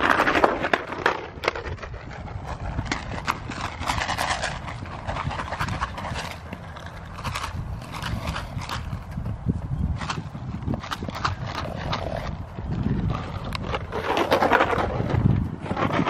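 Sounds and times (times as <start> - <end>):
horse hoofbeats on soft dirt: 1.6 - 16.0.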